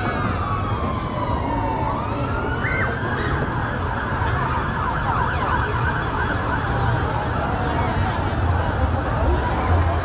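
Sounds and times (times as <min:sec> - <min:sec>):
emergency vehicle siren wailing: 0:00.0 - 0:10.0.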